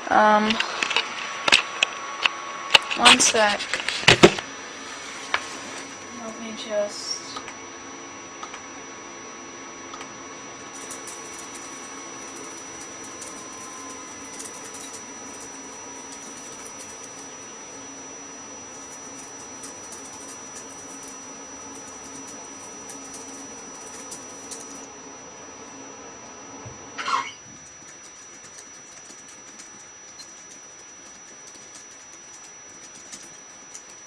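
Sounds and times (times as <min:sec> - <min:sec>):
faint high whine: 0:00.0 - 0:34.0.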